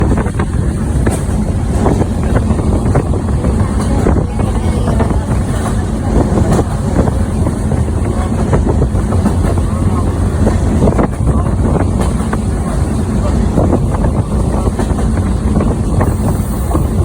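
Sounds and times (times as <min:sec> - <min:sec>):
moving vehicle rumble: 0:00.0 - 0:17.0
wind buffeting microphone: 0:00.0 - 0:17.0.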